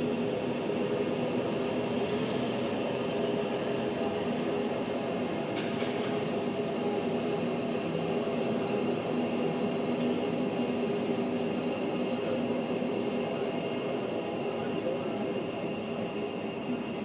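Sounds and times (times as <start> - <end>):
airliner engines humming: 0.0 - 17.0.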